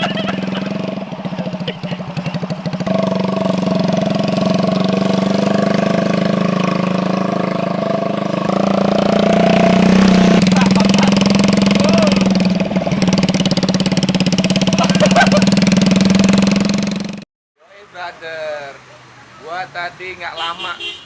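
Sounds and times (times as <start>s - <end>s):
motorcycle engine running: 0.0s - 17.3s.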